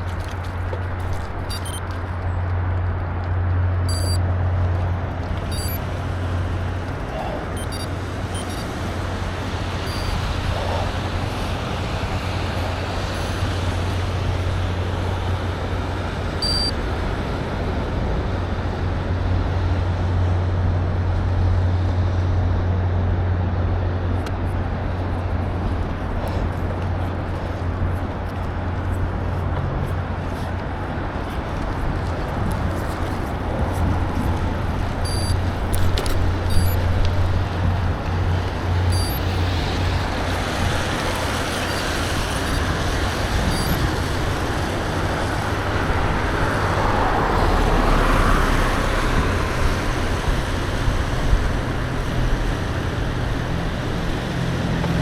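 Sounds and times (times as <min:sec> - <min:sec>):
bicycle rolling noise: 0:00.0 - 0:55.0
deep constant rumble: 0:00.0 - 0:55.0
wind noise: 0:00.0 - 0:55.0.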